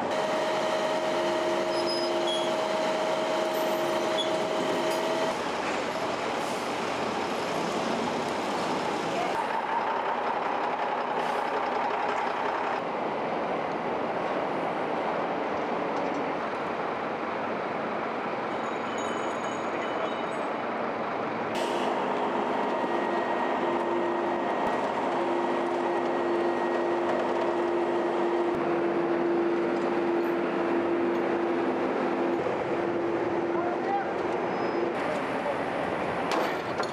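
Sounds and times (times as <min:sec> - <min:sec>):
diesel truck engines running: 0:00.0 - 0:18.3, 0:20.7 - 0:36.9.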